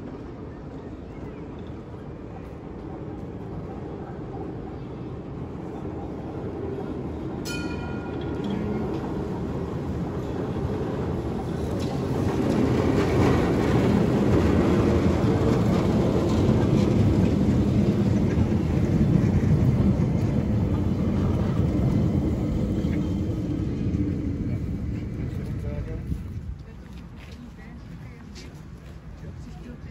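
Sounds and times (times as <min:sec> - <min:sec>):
electric tram wheels rumbling on rails: 0:00.0 - 0:29.9.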